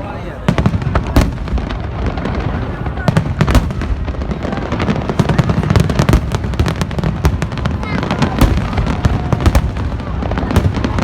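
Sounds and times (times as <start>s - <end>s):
fireworks booms and crackles: 0.0s - 11.0s.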